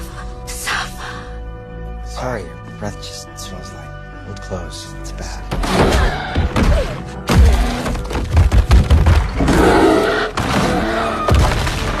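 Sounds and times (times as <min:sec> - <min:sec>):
film soundtrack music: 0:00.0 - 0:12.0.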